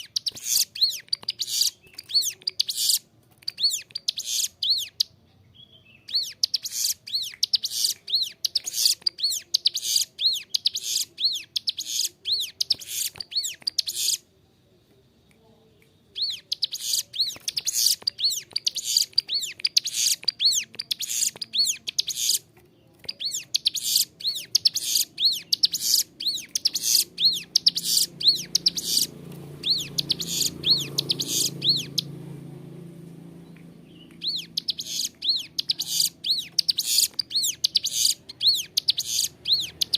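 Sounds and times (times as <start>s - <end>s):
bird singing high sharp chirps: 0.0s - 14.3s, 16.1s - 32.2s, 33.4s - 39.9s.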